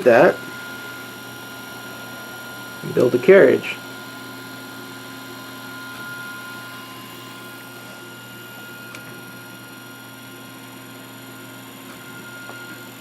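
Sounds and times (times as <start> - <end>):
electrical hum: 0.0 - 13.0
high-pitched whines: 0.0 - 13.0.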